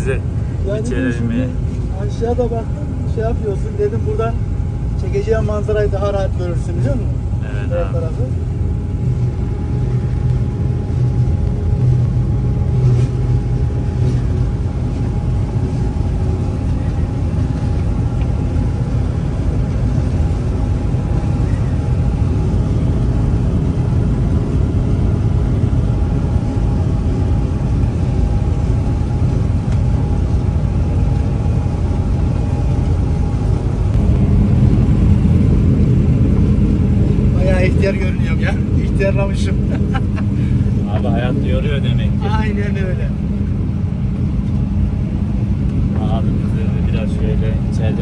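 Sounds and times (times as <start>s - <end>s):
combine harvester engine drone: 0.0s - 48.0s
faint steady hum: 0.0s - 48.0s.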